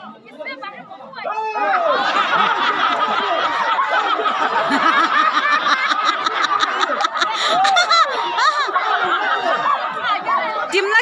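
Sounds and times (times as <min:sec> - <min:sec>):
crowd laughing and shouting: 0:00.0 - 0:11.0.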